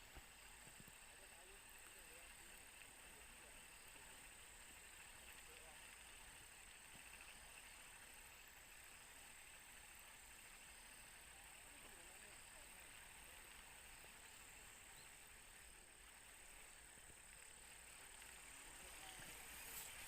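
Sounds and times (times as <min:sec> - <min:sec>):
faint outdoor hiss: 0:00.0 - 0:20.0.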